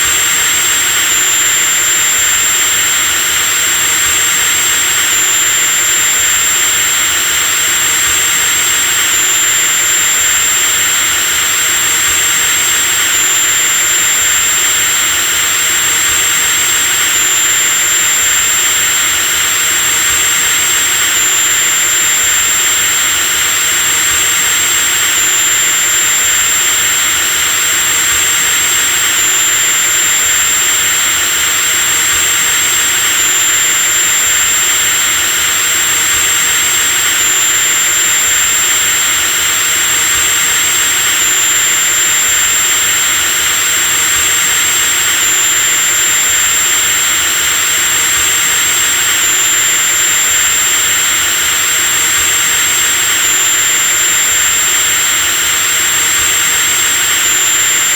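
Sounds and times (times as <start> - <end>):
power drill whining: 0.0 - 57.9.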